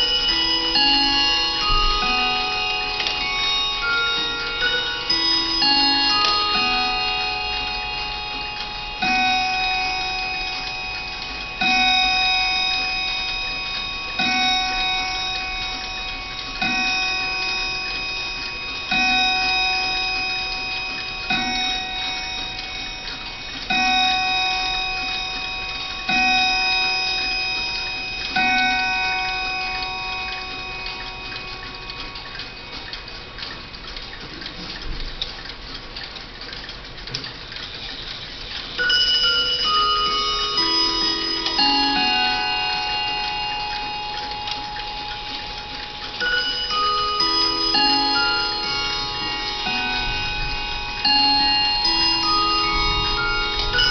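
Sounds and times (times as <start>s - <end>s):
clock chime tune: 0.0s - 53.9s
clock striking: 0.0s - 53.9s
clock ticking: 0.0s - 53.9s.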